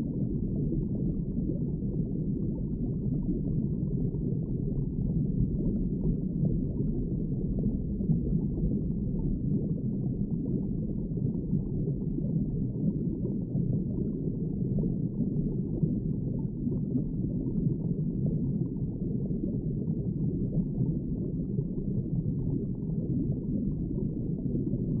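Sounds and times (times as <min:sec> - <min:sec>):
faint bubbling: 0:00.0 - 0:25.0
muffled underwater rumble: 0:00.0 - 0:25.0.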